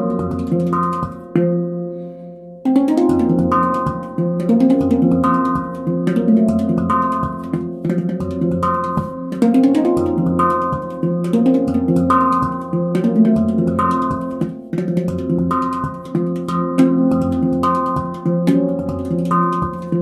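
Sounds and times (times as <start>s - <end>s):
handpan played with fingers: 0.0s - 20.0s.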